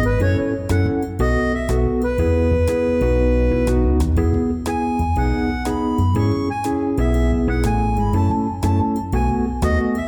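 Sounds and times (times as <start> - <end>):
keyboard instrumental music: 0.0 - 10.0.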